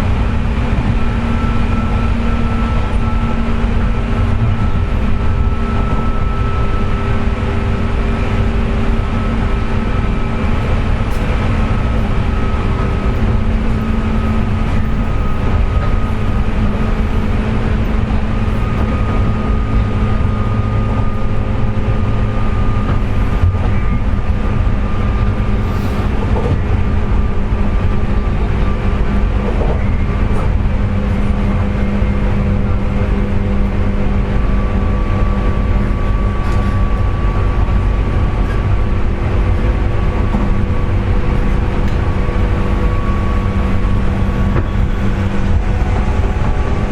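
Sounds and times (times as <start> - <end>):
jet-like motor whine: 0.0 - 46.9
wheel and rail rumble: 0.0 - 46.9.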